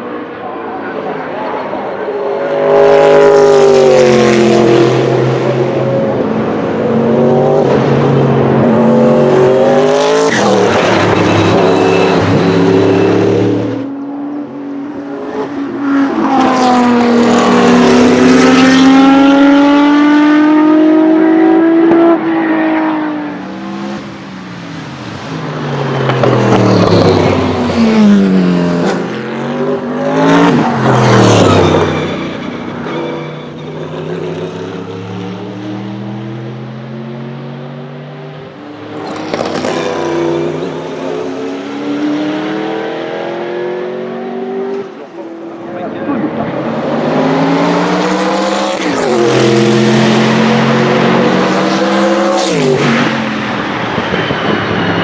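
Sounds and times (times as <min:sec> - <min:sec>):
racing engine accelerating: 0:02.1 - 0:24.0, 0:25.4 - 0:55.0.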